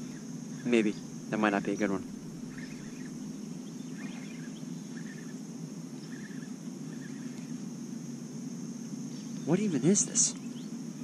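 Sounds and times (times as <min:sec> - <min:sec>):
faint bird chirps: 0:00.0 - 0:08.1, 0:09.0 - 0:11.0
high insect drone: 0:00.0 - 0:11.0
low background noise: 0:00.0 - 0:11.0.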